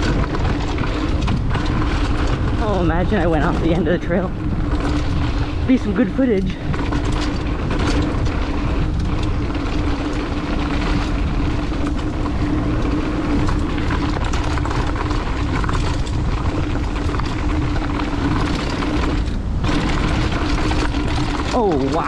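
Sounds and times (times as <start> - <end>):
bike clattering over bumps: 0.0 - 22.0
wind rushing over microphone: 0.0 - 22.0.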